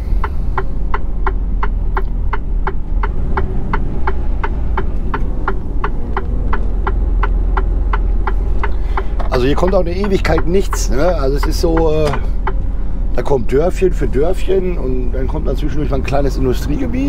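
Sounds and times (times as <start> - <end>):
diesel engine rumble: 0.0 - 17.0
turn indicator ticking: 0.0 - 17.0.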